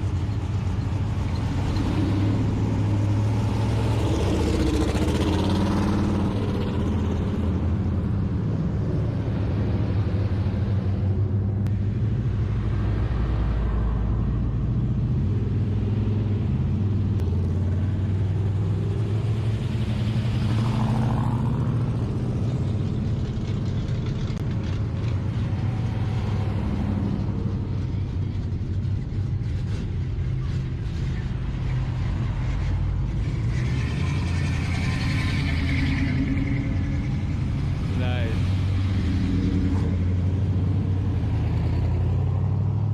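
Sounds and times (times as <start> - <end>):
car engines rumbling: 0.0 - 42.9.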